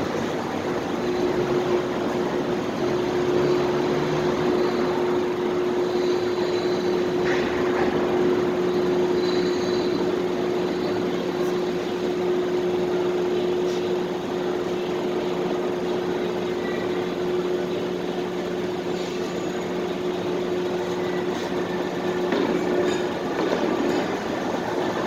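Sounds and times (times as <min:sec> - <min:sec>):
mechanical hum and rush: 0:00.0 - 0:25.0.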